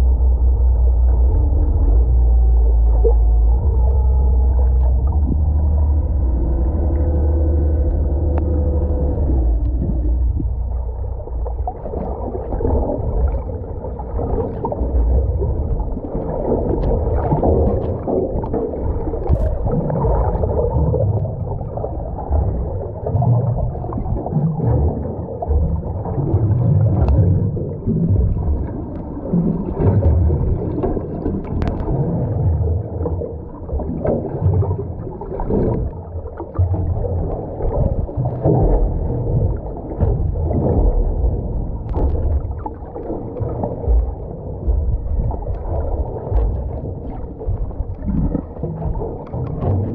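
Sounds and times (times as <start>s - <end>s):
muffled underwater water noise: 0.0s - 49.9s.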